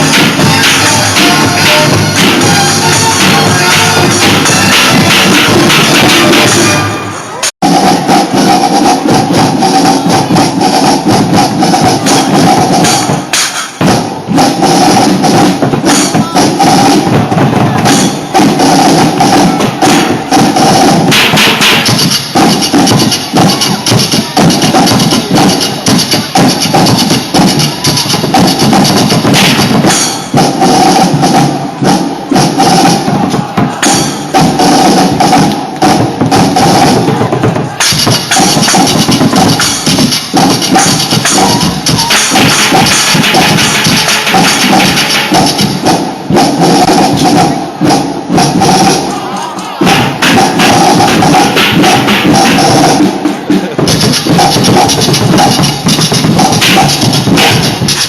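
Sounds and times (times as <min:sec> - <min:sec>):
drumline drum strokes: 0:00.0 - 0:58.0
music: 0:00.0 - 0:58.0.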